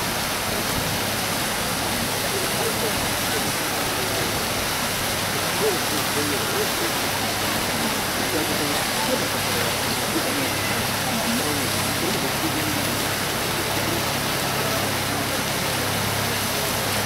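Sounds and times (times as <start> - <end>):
fountains splashing: 0.0 - 17.0
murmur of crowd voices: 0.0 - 17.0.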